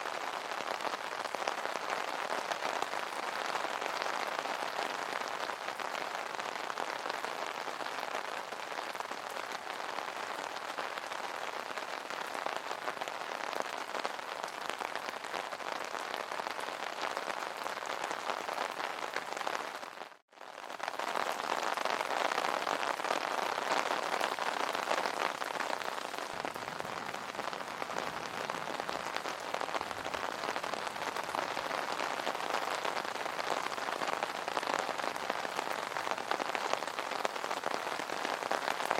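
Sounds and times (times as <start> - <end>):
rain pattering on an umbrella: 0.0 - 38.9.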